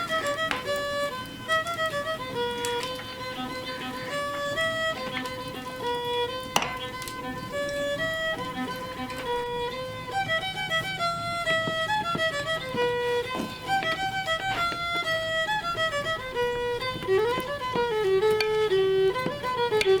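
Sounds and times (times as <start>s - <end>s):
violin playing lilting melody: 0.0s - 20.0s.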